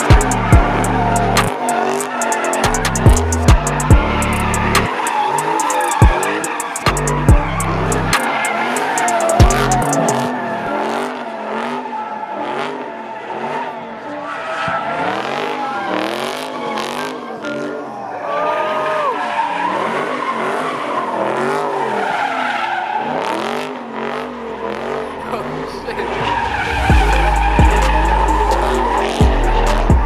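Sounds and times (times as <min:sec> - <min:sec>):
car engine revving: 0:00.0 - 0:30.0
tires squealing: 0:00.0 - 0:30.0.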